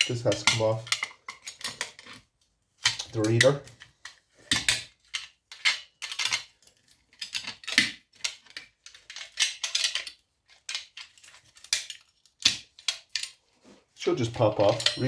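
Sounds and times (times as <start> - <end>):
metal parts clicking and rattling: 0.0 - 13.5, 14.1 - 15.0.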